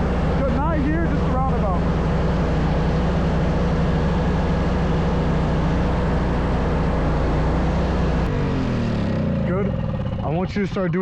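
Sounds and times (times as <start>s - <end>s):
snow-removal machine engine: 0.0s - 11.0s.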